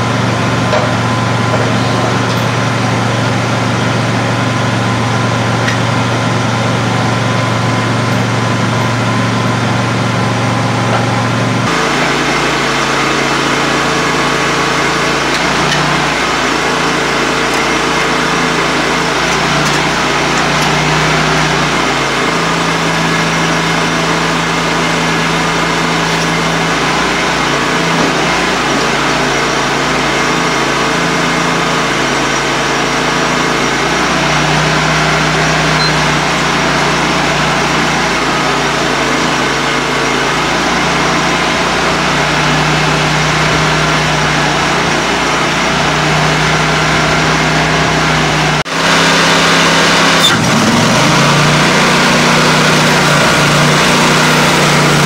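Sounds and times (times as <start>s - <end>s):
bandsaw sawmill cutting log: 0.0s - 55.0s
tractor diesel engine idling: 0.0s - 55.0s.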